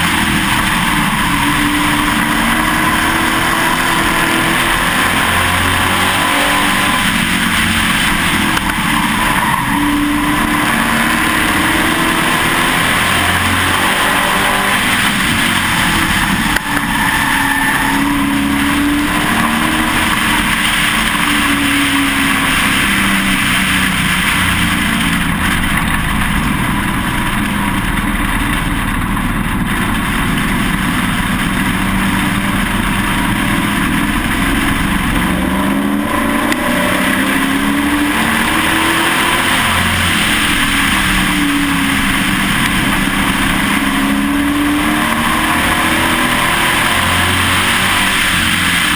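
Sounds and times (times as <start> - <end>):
racing truck engine: 0.0 - 48.9.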